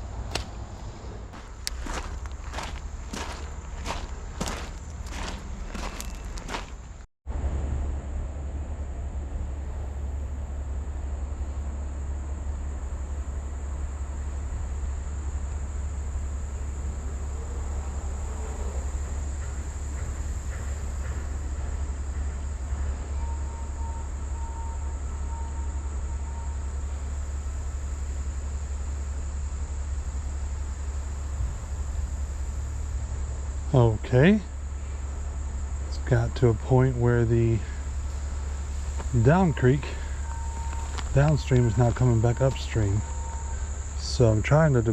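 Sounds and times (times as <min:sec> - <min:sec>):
insects droning: 0:00.0 - 0:07.1, 0:08.6 - 0:44.9.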